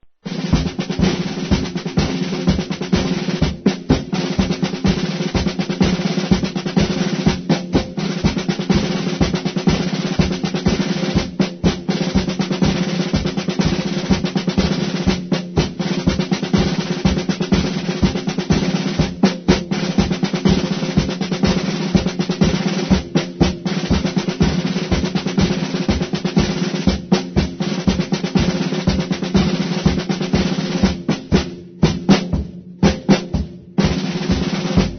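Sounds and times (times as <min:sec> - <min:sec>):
marching drums: 0:00.1 - 0:34.9.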